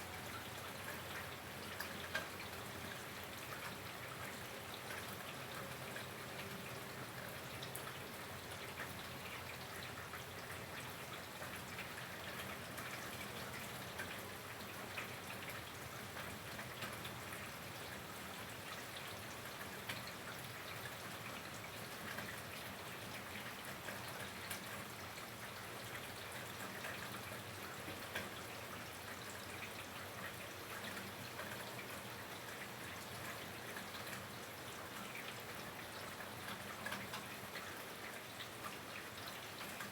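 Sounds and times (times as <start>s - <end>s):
steady rain: 0.0s - 39.9s
rain drop ticks: 0.1s - 6.6s, 7.2s - 39.9s.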